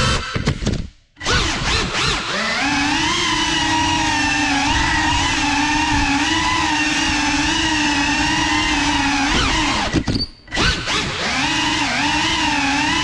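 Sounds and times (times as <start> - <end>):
drone motors whining: 1.2 - 13.0.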